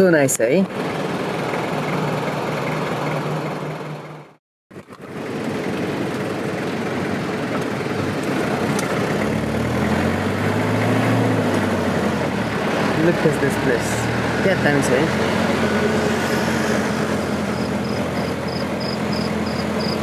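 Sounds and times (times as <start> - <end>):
engine hum: 0.0 - 20.0
road and vehicle noise: 0.0 - 20.0
vehicle driving heard from cab: 0.6 - 20.0.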